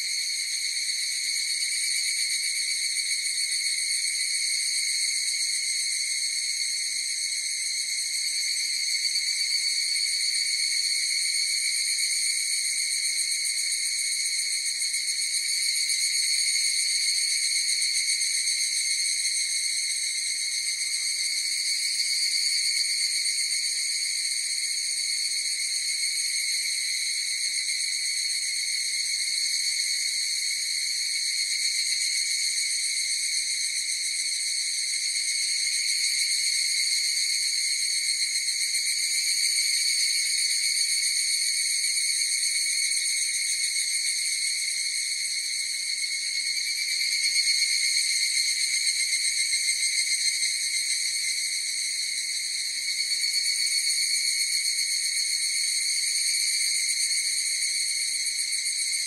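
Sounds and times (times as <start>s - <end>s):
evening cicadas calling: 0.0s - 59.0s.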